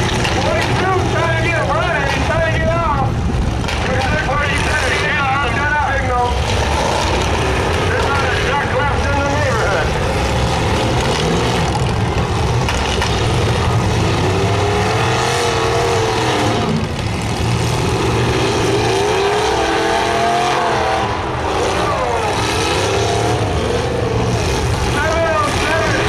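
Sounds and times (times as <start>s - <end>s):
car engines revving hard: 0.0s - 26.0s
steady loud rumble: 0.0s - 26.0s.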